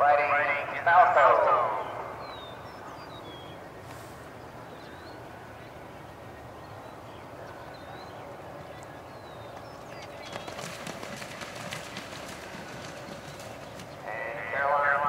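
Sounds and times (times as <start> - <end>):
outdoor background hiss: 0.0 - 15.0
small birds chirping: 1.8 - 15.0.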